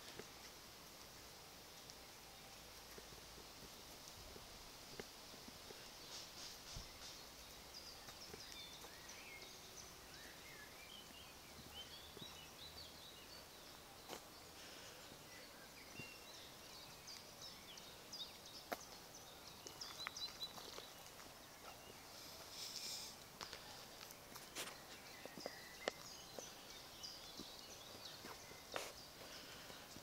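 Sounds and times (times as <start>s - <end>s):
background hiss: 0.0s - 30.0s
songbirds chirping and whistling: 5.6s - 30.0s.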